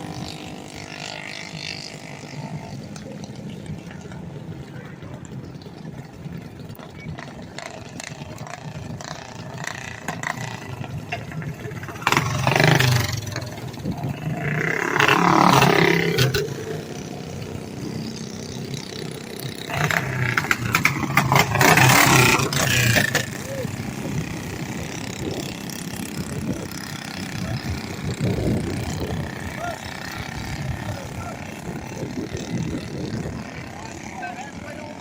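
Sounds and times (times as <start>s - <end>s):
kart engines passing: 0.0s - 35.0s.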